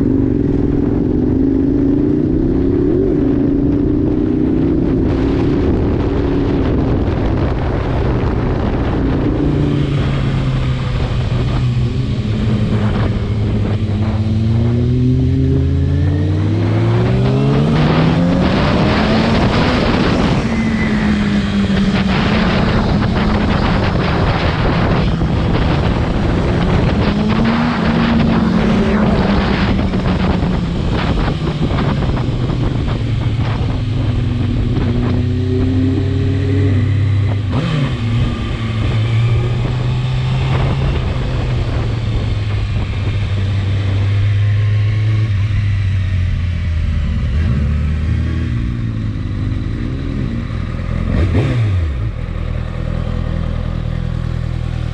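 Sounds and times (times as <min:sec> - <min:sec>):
wind rush: 0:00.0 - 0:52.3
motorcycle engine accelerating: 0:00.0 - 0:54.9.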